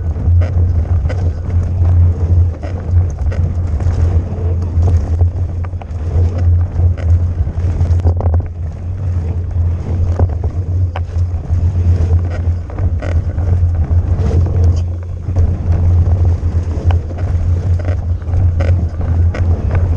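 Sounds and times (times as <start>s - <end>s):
bike knocking and rattling: 0.0s - 19.9s
wind and riding noise: 0.0s - 19.9s.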